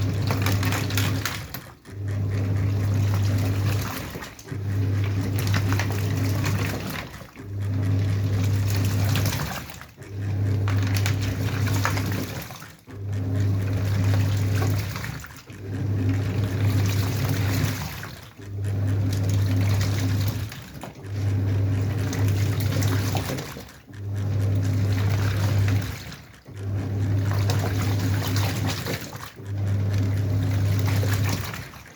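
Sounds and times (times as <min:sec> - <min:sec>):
churning water: 0:00.0 - 0:31.9
washing machine motor: 0:00.0 - 0:31.9.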